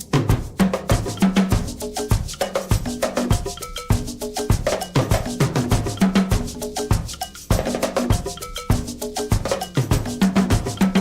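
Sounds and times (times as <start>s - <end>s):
music with drums and percussion: 0.0s - 11.0s.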